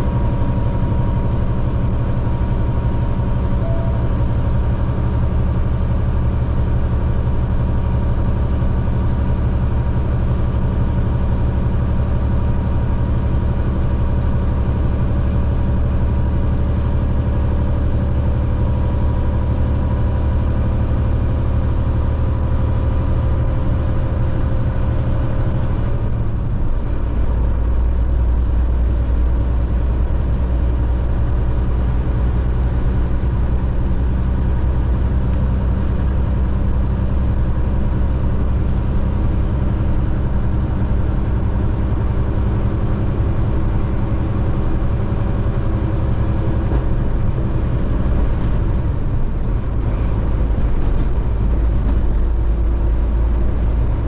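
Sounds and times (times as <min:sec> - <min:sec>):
car engine and tyre road noise: 0:00.0 - 0:54.0.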